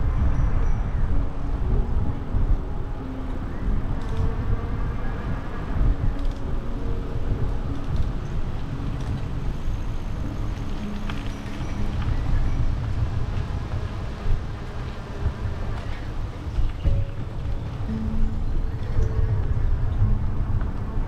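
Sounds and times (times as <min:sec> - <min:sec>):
faint road and traffic hum: 0:00.0 - 0:21.0
wind buffeting microphone: 0:00.0 - 0:21.0.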